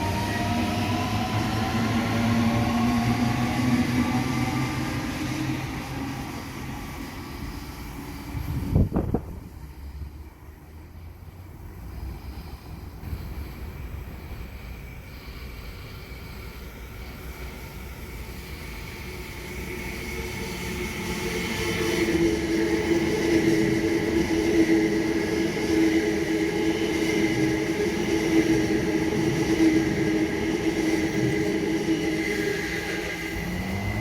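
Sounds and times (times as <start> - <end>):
electric train whine and rumble: 0.0 - 34.0.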